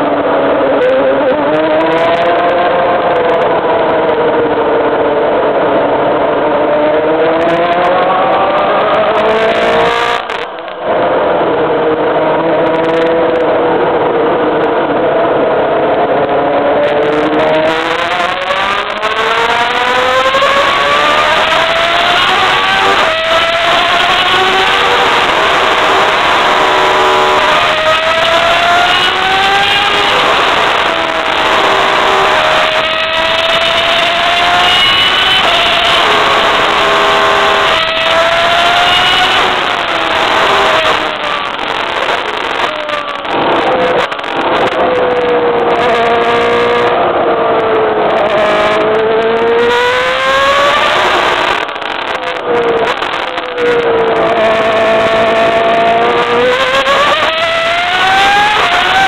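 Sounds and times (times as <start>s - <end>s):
racing car engine at high revs: 0.0s - 59.0s
wind and road noise: 0.0s - 59.0s.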